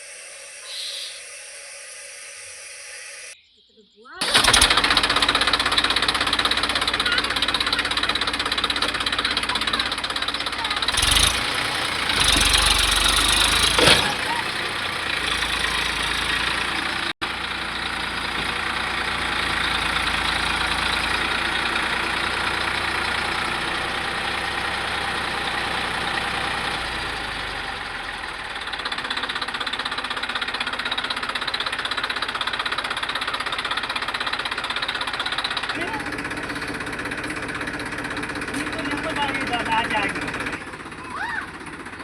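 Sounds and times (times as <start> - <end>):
tractor diesel engine running: 4.2 - 42.0.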